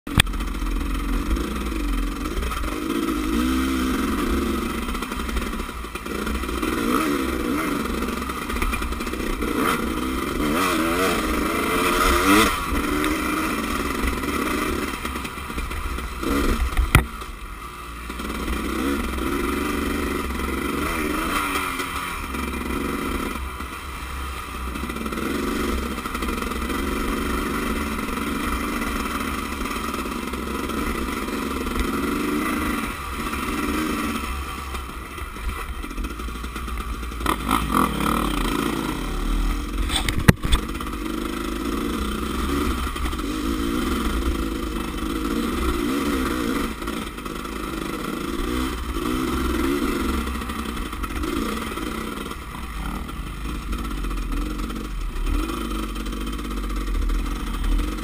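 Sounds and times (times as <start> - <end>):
motorcycle engine revving: 0.1 - 58.0.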